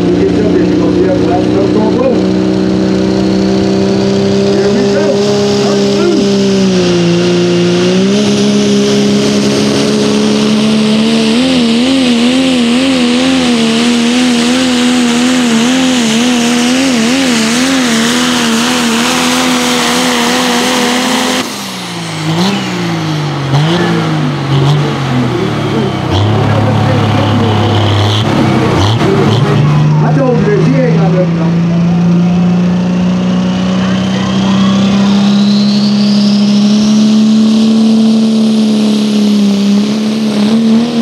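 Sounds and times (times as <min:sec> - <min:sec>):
diesel engine at high revs: 0:00.0 - 0:41.0.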